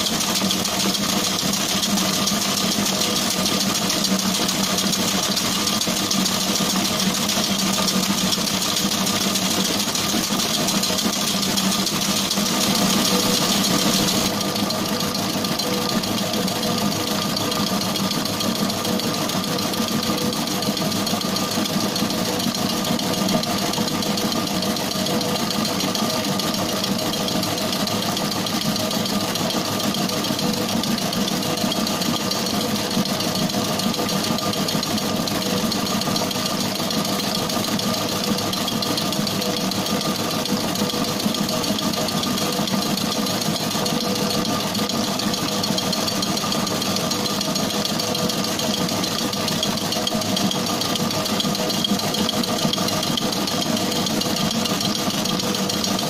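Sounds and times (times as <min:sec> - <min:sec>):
stand mixer motor humming: 0:00.0 - 0:56.0.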